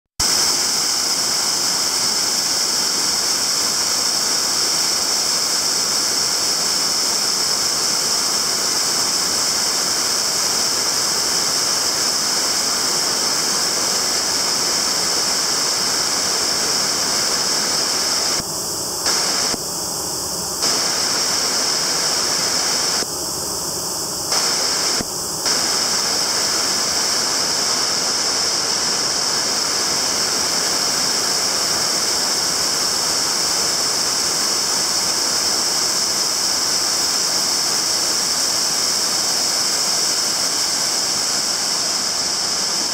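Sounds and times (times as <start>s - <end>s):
waterfall rushing: 0.2s - 18.4s, 19.1s - 19.6s, 20.6s - 23.0s, 24.3s - 42.9s.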